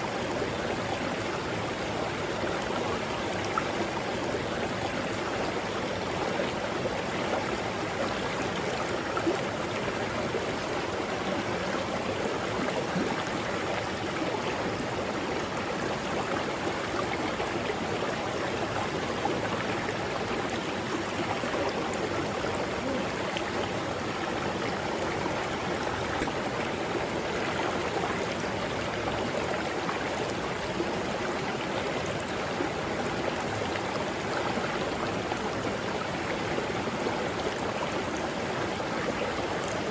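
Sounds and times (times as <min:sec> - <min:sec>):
river running over rocks: 0:00.0 - 0:39.9.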